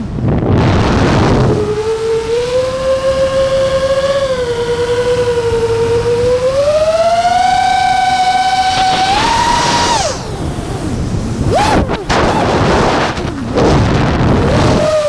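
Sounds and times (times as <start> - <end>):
quadcopter motors whining: 0.0 - 15.0
rushing wind noise: 0.0 - 15.0.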